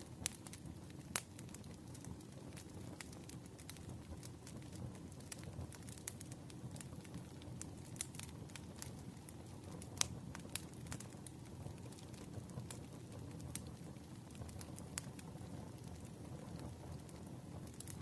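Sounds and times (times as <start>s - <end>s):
fire rumbling: 0.0s - 18.0s
firewood crackling and popping: 0.0s - 18.0s.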